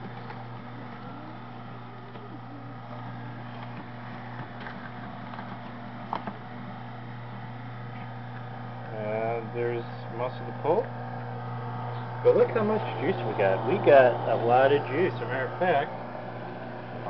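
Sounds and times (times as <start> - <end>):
juicer motor humming: 0.0 - 17.0.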